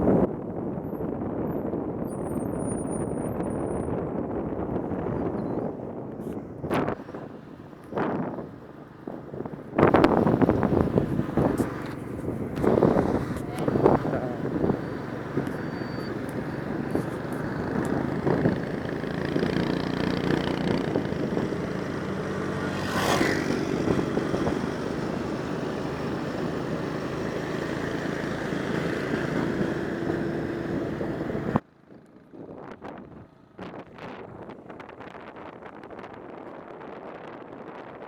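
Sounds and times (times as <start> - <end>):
vehicle engine and traffic noise: 0.0 - 37.4.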